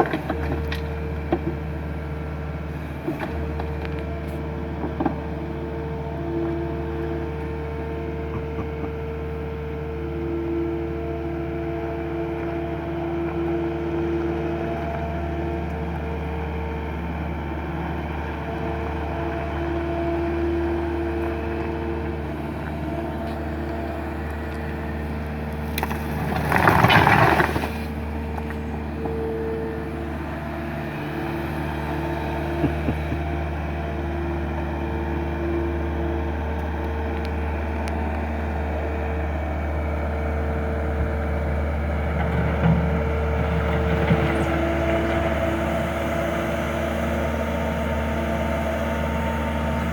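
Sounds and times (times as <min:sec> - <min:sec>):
loader engine whining: 0:00.0 - 0:49.9.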